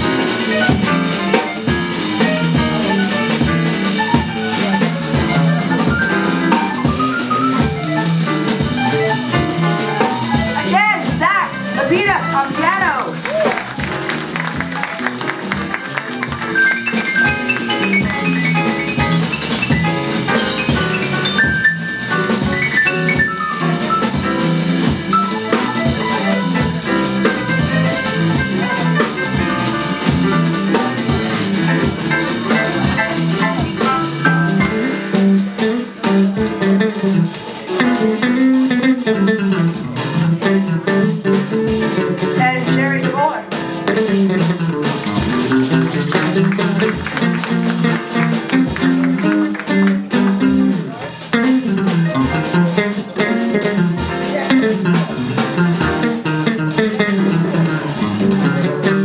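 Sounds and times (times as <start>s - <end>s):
drum kit: 0.0s - 59.0s
jazzy guitar: 0.0s - 59.0s.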